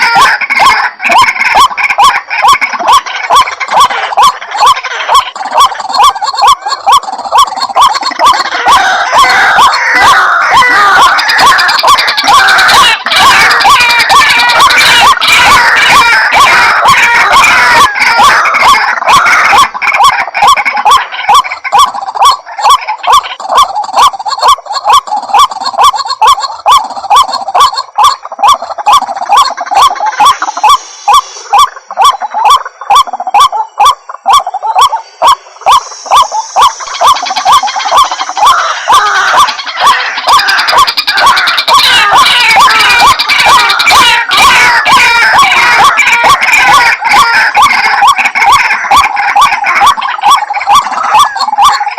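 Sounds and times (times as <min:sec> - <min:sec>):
waterhens croaking: 0:00.0 - 0:51.9.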